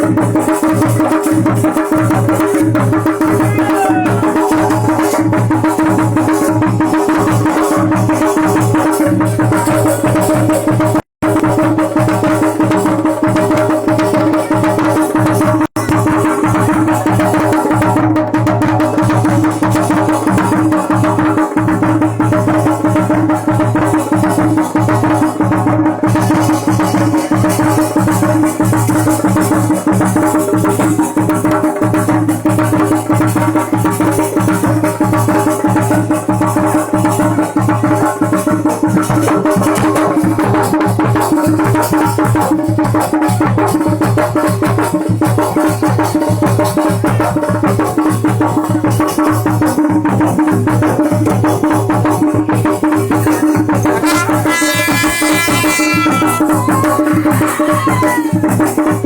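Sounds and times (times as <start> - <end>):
fast drumming: 0.0 - 59.0.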